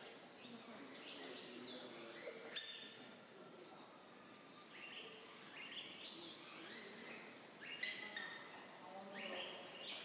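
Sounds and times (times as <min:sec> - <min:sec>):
birds chirping: 0:00.1 - 0:10.0.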